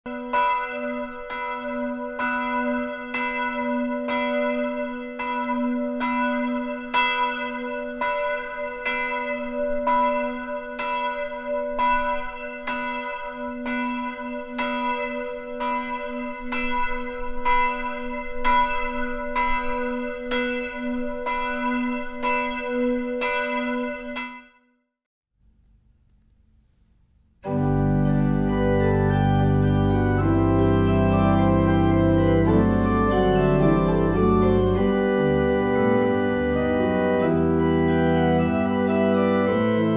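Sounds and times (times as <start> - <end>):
church bell tolling: 0.1 - 24.6, 27.4 - 39.9.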